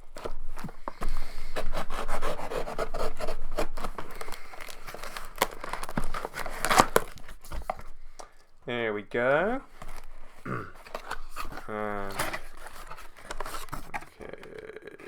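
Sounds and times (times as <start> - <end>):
cardboard scraping and tearing: 0.0 - 8.1, 9.6 - 14.6.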